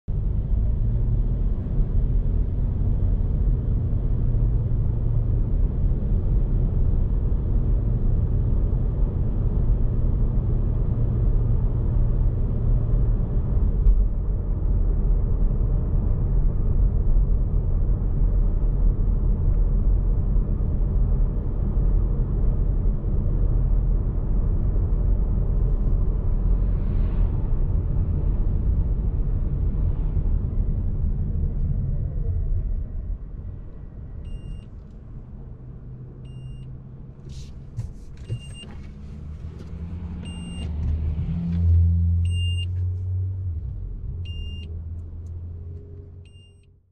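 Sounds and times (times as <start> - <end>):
low engine hum: 0.0 - 46.9
car driving rumble: 0.1 - 46.9.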